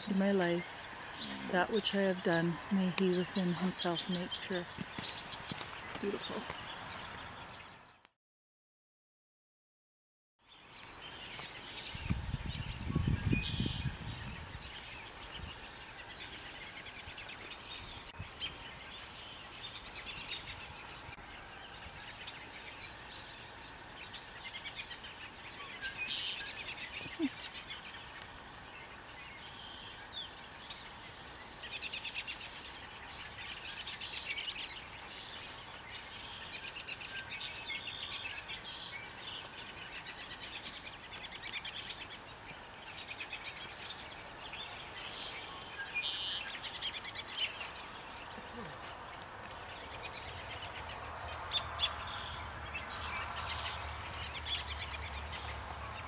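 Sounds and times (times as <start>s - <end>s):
small birds chirping: 0.0s - 8.1s, 10.4s - 56.0s
faint outdoor background noise: 0.0s - 8.2s, 10.4s - 56.0s.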